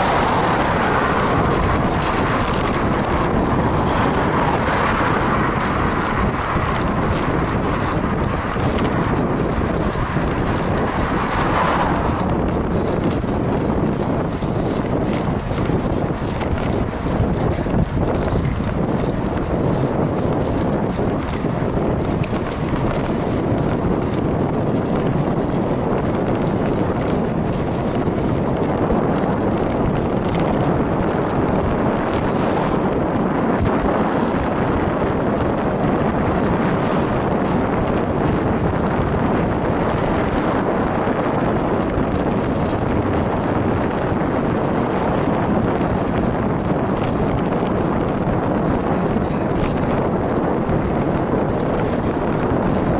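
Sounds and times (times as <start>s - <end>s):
low rumble: 0.0s - 52.9s
wind buffeting microphone: 0.0s - 52.9s.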